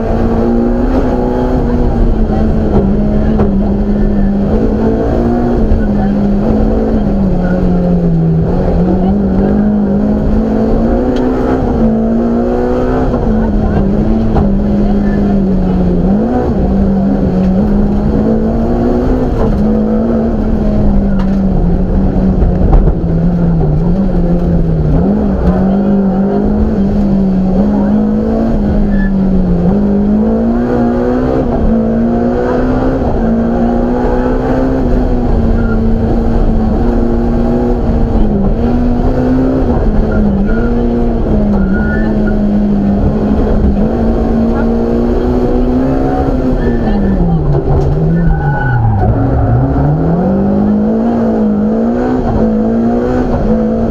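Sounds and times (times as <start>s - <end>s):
car engine running hard: 0.0s - 53.9s.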